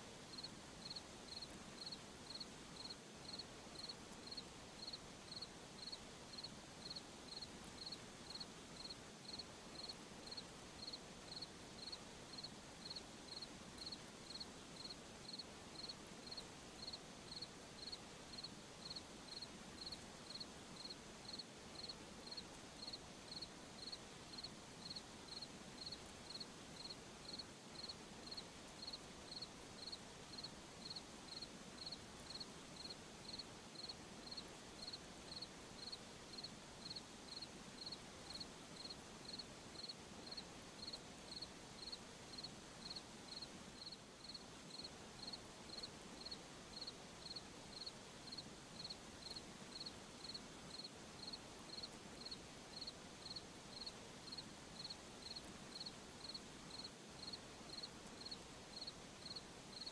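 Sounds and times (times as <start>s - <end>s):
soft background hiss: 0.0s - 59.9s
cricket chirping: 0.3s - 59.9s.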